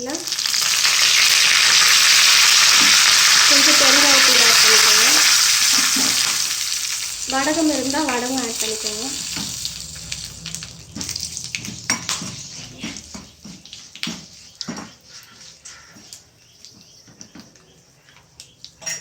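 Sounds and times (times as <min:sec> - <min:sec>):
seeds sizzling in hot oil: 0:00.0 - 0:16.8.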